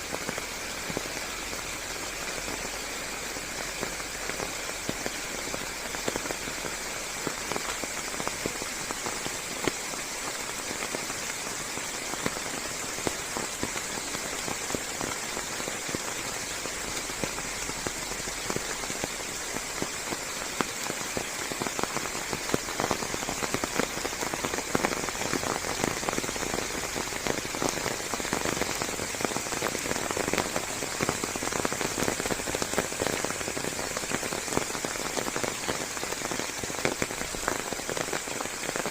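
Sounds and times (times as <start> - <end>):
rain falling on leaves: 0.0 - 38.9.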